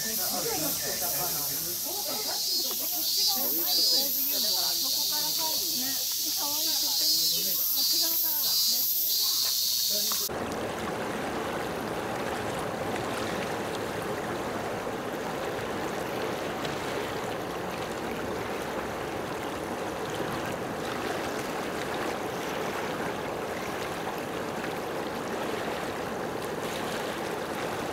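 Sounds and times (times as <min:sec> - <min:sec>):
flowing water rushing: 0:00.0 - 0:27.9.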